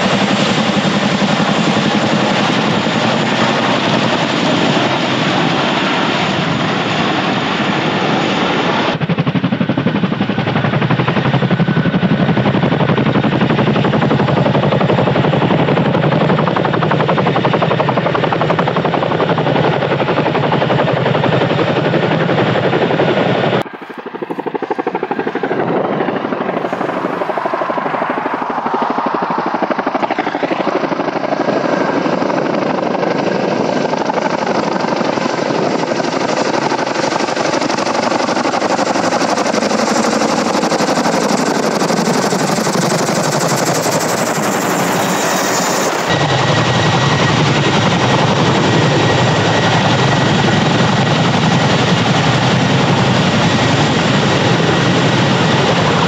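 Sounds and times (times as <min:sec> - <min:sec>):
helicopter rotor blades chopping: 0:00.0 - 0:56.0.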